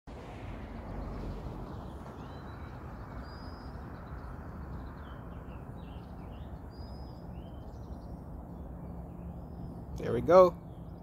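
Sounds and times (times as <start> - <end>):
low outdoor rumble: 0.1 - 11.0
birds chirping: 0.6 - 11.0.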